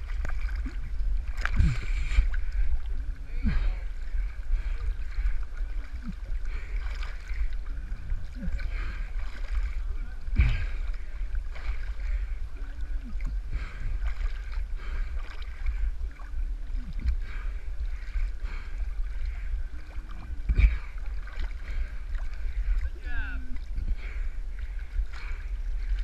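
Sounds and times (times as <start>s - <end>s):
water buffeting microphone: 0.0s - 26.0s
water sloshing and splashing: 0.0s - 26.0s.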